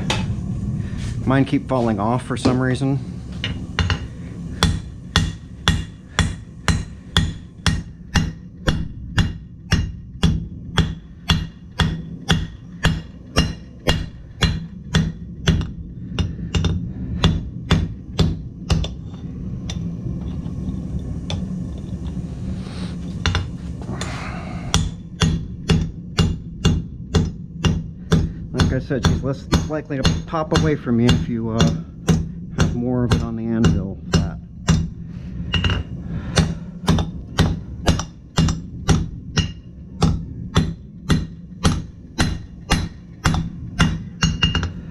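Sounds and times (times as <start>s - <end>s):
steady low hum: 0.0s - 44.9s
hammer striking steel on anvil: 1.3s - 19.8s, 24.0s - 44.8s.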